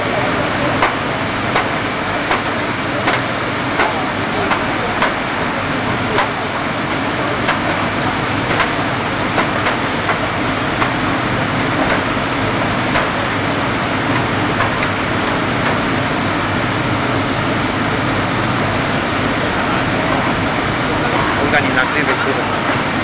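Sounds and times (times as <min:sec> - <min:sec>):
fire engine pumps droning: 0:00.0 - 0:23.0.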